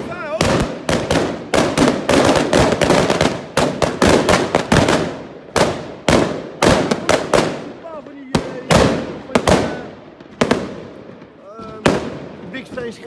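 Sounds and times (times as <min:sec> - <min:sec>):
firecrackers banging: 0:00.0 - 0:13.0.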